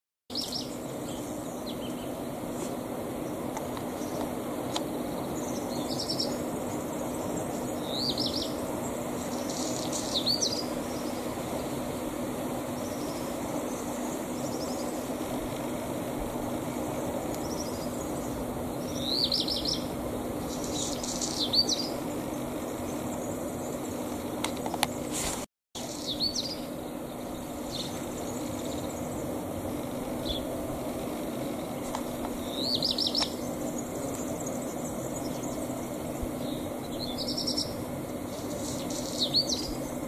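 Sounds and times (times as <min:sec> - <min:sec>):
songbird singing: 0:00.3 - 0:25.1, 0:25.8 - 0:40.0
low background hum: 0:00.3 - 0:40.0.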